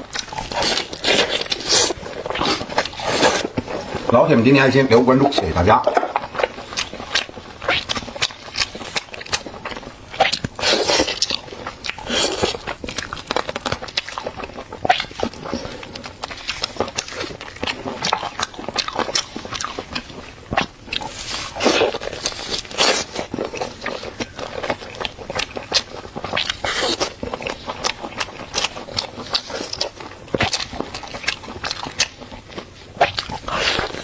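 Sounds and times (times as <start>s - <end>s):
person biting and chewing food: 0.0s - 34.0s.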